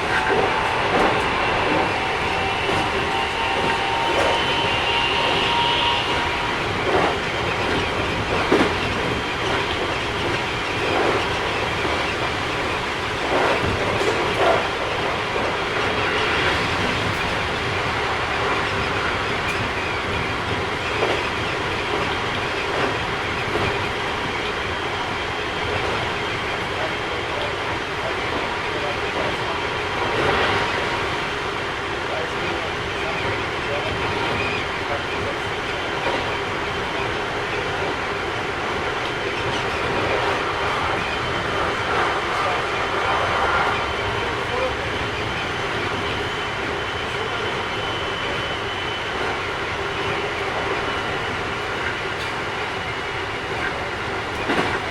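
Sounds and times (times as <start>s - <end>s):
rumble of train wheels: 0.0s - 54.9s
train traction drive whine: 0.0s - 54.9s.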